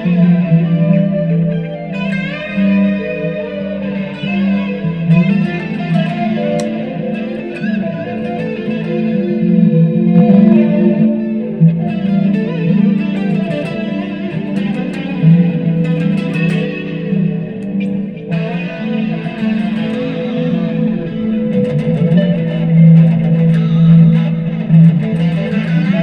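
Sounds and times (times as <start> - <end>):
electric guitar with effects: 0.0 - 26.0.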